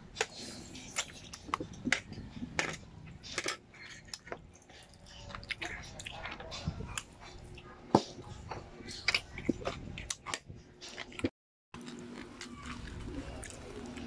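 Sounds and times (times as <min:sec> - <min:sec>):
man chewing chicken feet: 0:00.2 - 0:14.0.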